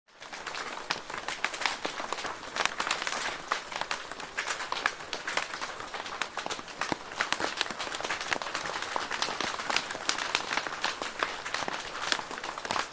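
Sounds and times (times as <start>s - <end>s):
rain pattering on a plastic roof: 0.1s - 12.9s.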